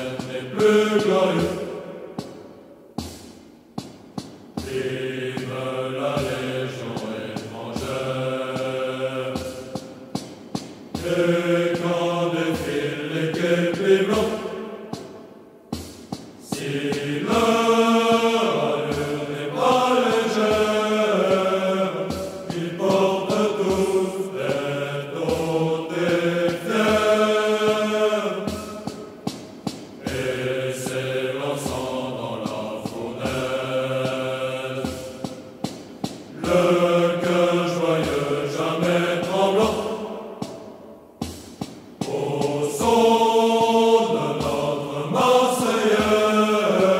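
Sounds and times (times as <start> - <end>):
choir singing slow song: 0.0 - 46.9.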